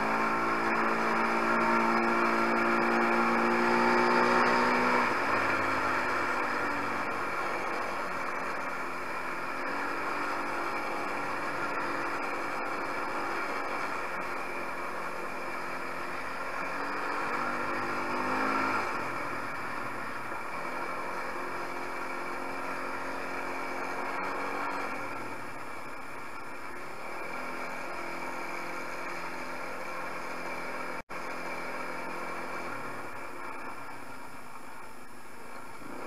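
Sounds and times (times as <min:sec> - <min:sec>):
quad engine running: 0:00.0 - 0:36.0.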